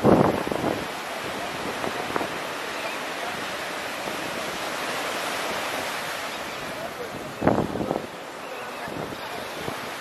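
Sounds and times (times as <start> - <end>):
wind noise on microphone: 0.0 - 2.7, 3.4 - 10.0
surf breaking on shore: 0.0 - 10.0.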